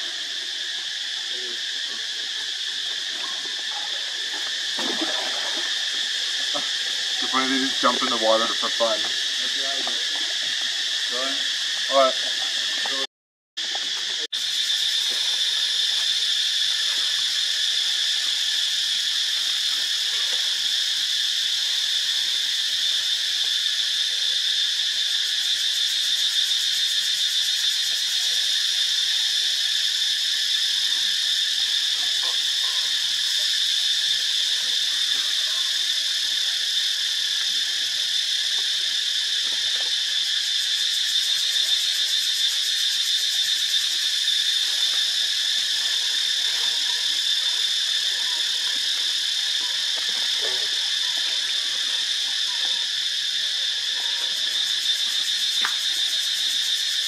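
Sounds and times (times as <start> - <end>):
insect chorus buzzing: 0.0 - 57.0.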